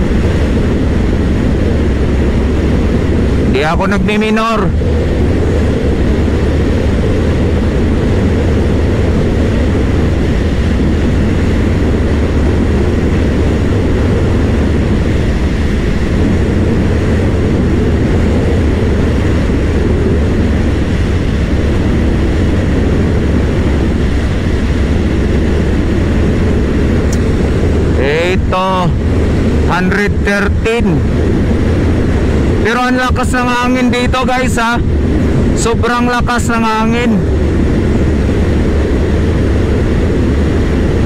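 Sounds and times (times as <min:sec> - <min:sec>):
wind rushing over microphone: 0:00.0 - 0:41.0.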